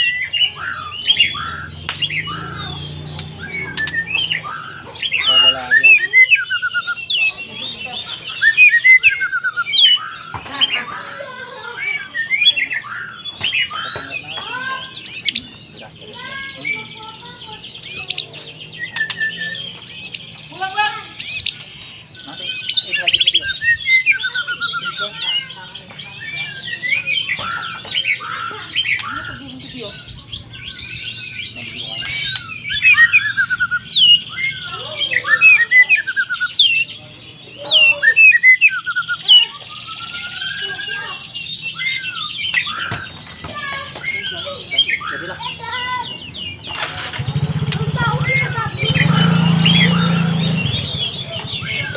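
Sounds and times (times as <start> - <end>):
songbird whistling and chirping: 0.0 - 51.9.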